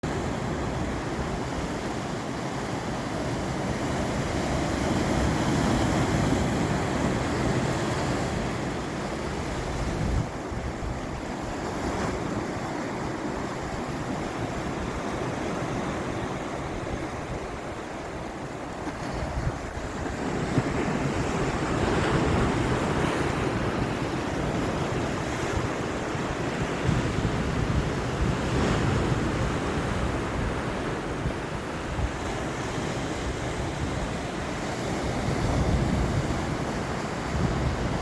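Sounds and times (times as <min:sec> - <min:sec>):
sea waves washing on shore: 0:00.0 - 0:38.0
wind buffeting microphone: 0:00.1 - 0:38.0.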